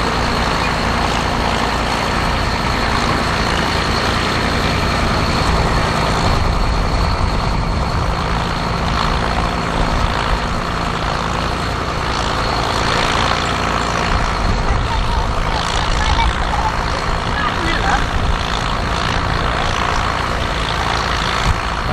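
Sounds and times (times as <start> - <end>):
tractor engine running under load: 0.0 - 21.9.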